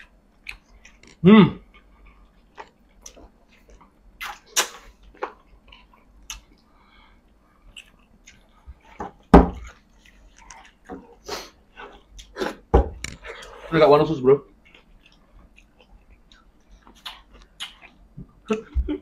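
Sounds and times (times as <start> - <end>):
chewing and mouth noises: 0.0 - 13.6, 14.5 - 19.0.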